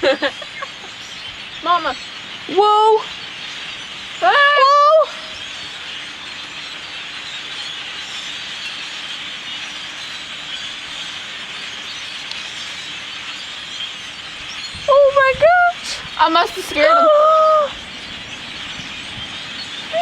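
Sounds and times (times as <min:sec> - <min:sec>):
flock of crows calling: 0:00.0 - 0:20.0.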